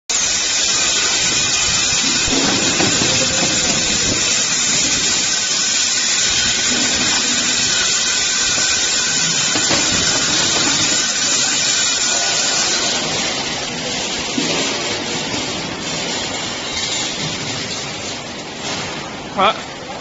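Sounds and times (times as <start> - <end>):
packing machine hissing: 0.1 - 19.3.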